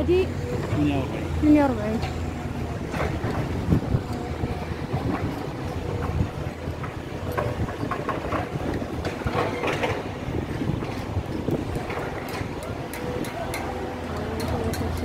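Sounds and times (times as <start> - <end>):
heavy machinery running: 0.0 - 15.0
metal clanks and knocks: 2.8 - 15.0.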